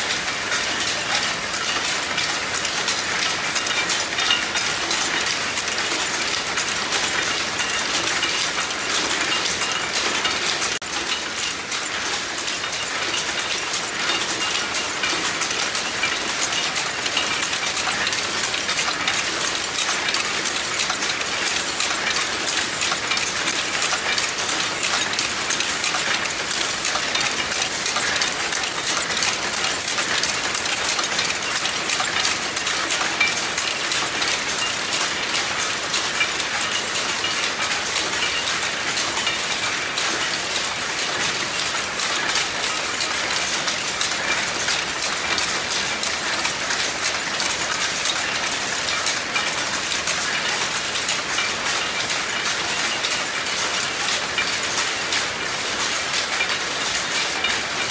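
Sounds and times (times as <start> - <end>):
weaving machine metallic clatter: 0.0 - 57.9.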